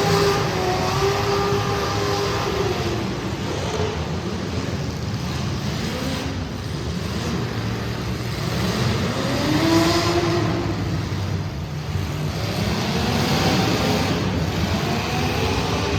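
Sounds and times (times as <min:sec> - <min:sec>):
car accelerating: 0:00.0 - 0:15.9
race car engines running hard: 0:00.0 - 0:15.9.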